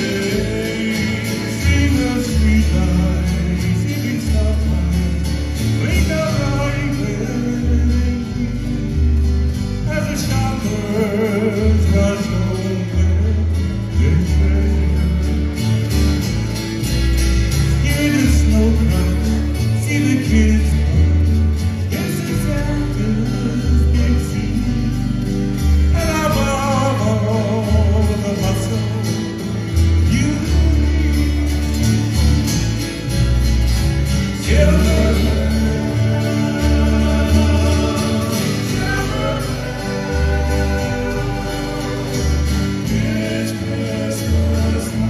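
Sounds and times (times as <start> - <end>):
men singing: 0.0 - 15.7, 17.7 - 32.2, 34.1 - 45.0
deep bass line: 0.0 - 45.0
strummed acoustic guitars: 0.0 - 45.0.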